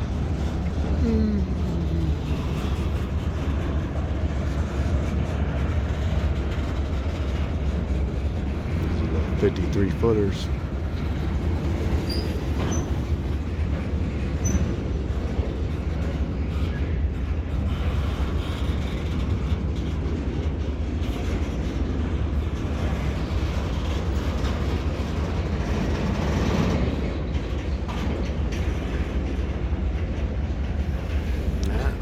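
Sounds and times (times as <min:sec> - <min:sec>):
freight train wheels rumbling on rail: 0:00.0 - 0:32.0.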